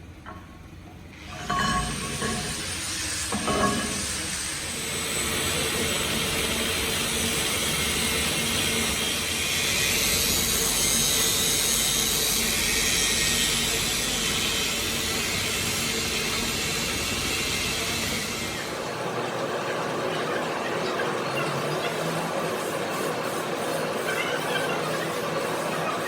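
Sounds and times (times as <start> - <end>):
machinery grinding: 1.2 - 26.0.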